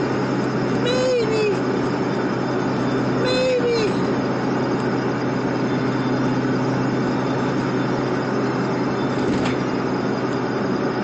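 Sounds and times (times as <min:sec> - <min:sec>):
car engine hum: 0:00.0 - 0:11.0
road noise inside car: 0:00.0 - 0:11.0.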